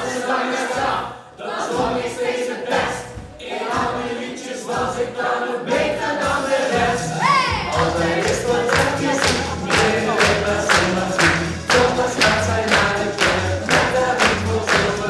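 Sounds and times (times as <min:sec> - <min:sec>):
accompanying music: 0:00.0 - 0:15.0
group singing in chorus: 0:00.0 - 0:15.0.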